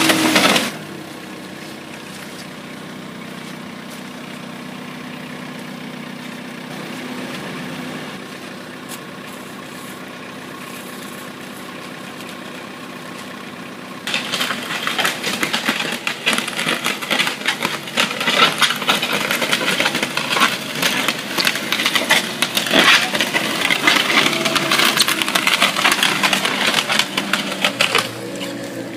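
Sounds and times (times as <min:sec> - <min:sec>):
diesel engine idling: 0:00.0 - 0:28.9
loader rattling over rough ground: 0:00.0 - 0:28.9.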